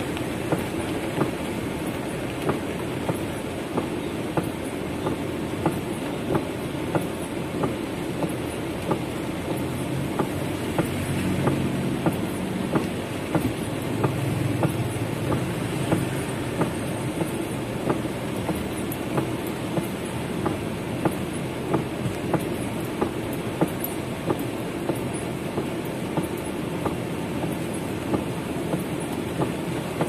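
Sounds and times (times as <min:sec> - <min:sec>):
heavy rain on car roof: 0:00.0 - 0:30.0.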